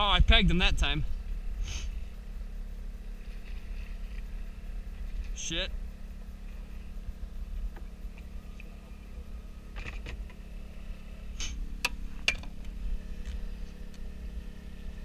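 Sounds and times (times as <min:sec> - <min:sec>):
boat engine hum: 0:00.0 - 0:15.0.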